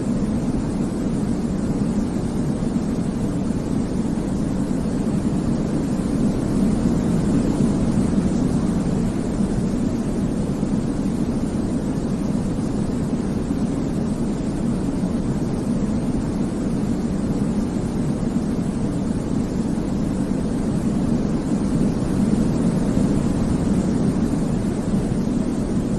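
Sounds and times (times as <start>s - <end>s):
deep rumbling white noise: 0.0s - 25.9s.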